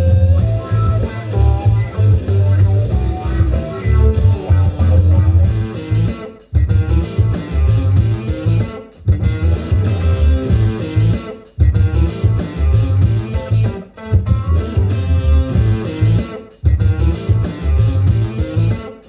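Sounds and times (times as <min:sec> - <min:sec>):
guitar and bass music on speakers: 0:00.0 - 0:19.0.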